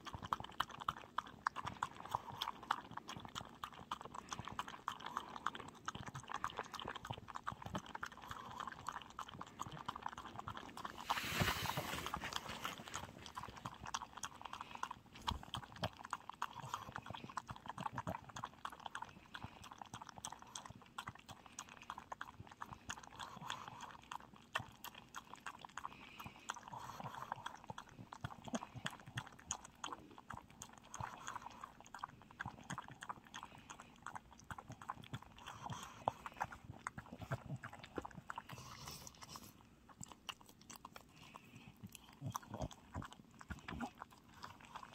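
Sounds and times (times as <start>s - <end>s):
dog crunching food: 0.0s - 44.9s.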